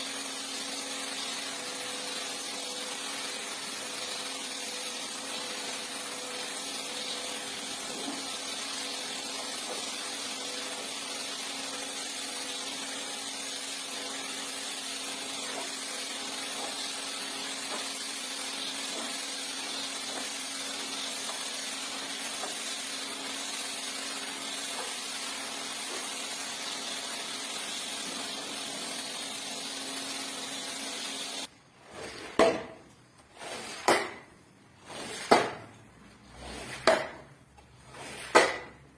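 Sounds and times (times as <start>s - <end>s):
rug-cleaning machine hissing: 0.0s - 31.5s.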